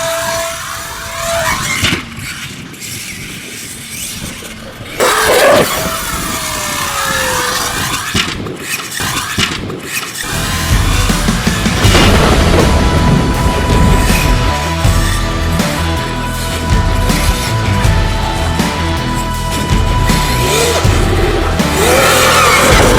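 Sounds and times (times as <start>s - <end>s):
electric motor whining: 0.0s - 22.9s
tyre noise: 0.0s - 22.9s.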